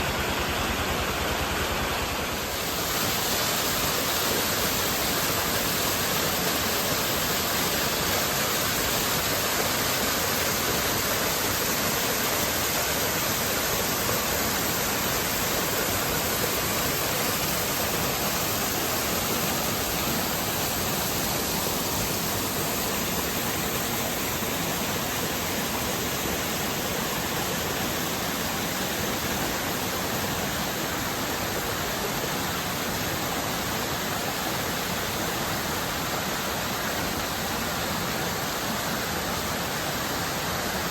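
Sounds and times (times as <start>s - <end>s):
waterfall rushing and splashing: 0.0s - 40.9s.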